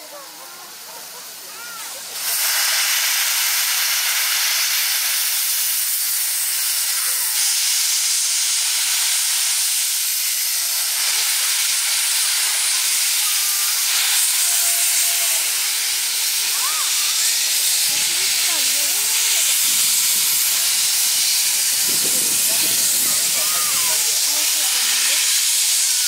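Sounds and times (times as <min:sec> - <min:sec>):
loud steam hiss: 0:00.0 - 0:26.0.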